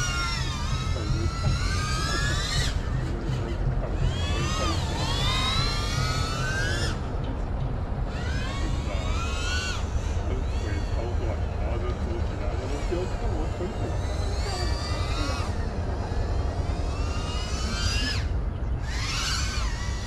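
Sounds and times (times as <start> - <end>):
quadcopter motors whining: 0.0 - 20.0
steady low rumble: 0.0 - 20.0.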